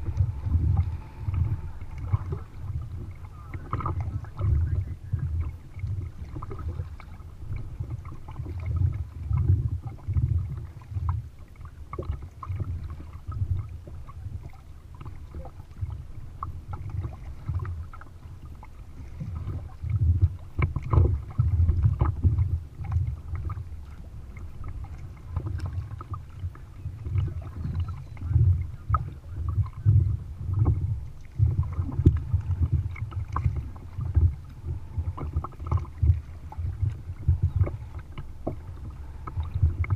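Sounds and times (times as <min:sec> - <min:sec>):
paddle splashes and drips: 0:00.0 - 0:39.9
water slapping against kayak hull: 0:00.0 - 0:39.9.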